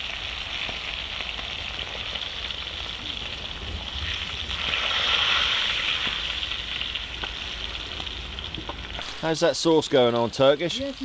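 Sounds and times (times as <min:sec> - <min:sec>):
steaks sizzling on griddle: 0:00.0 - 0:11.0.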